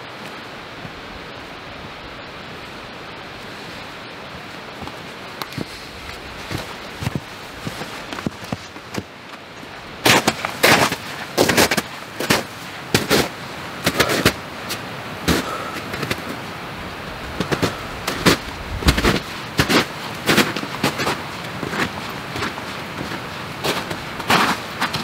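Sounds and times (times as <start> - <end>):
footsteps crunching: 4.3 - 25.0.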